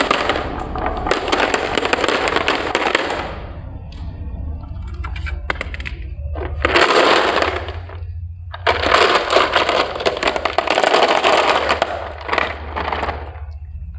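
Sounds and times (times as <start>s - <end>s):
marbles clattering down a track: 0.0s - 3.4s, 4.9s - 13.6s
steady low hum: 0.0s - 13.9s.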